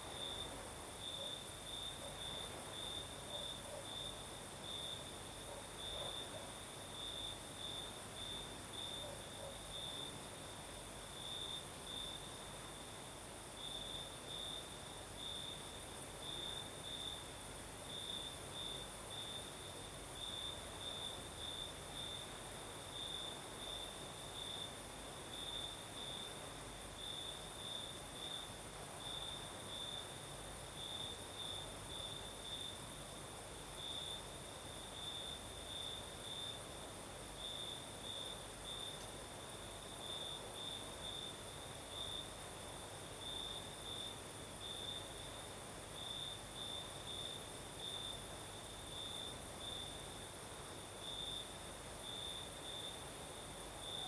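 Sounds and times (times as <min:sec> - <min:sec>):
continuous insect trill: 0:00.0 - 0:54.0
soft breeze hiss: 0:00.0 - 0:54.0.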